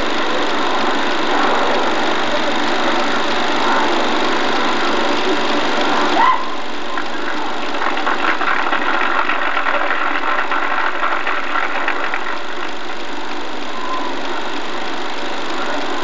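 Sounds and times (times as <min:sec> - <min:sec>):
film projector clattering: 0:00.0 - 0:16.0.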